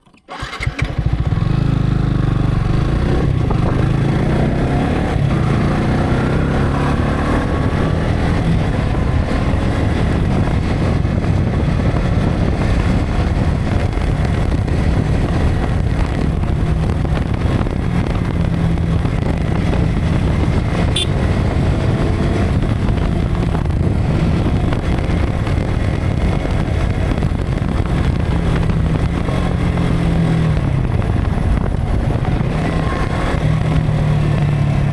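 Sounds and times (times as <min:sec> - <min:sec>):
motorcycle engine running: 0:00.3 - 0:34.9
wind buffeting microphone: 0:01.2 - 0:34.9.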